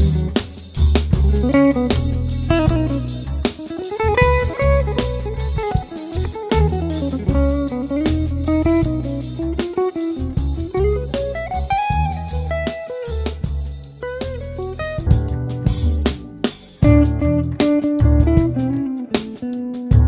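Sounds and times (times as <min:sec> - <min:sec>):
bass and drums: 0:00.0 - 0:20.0
blues electric guitar melody: 0:00.0 - 0:20.0.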